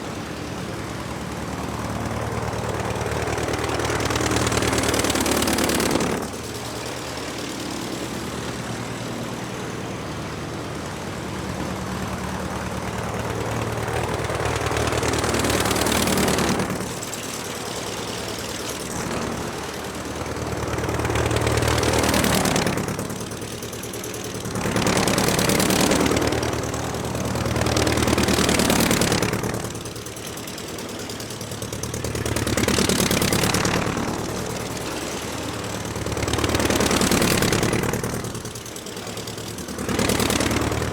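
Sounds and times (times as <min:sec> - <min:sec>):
aircraft engine revving and idling: 0:00.0 - 0:40.9.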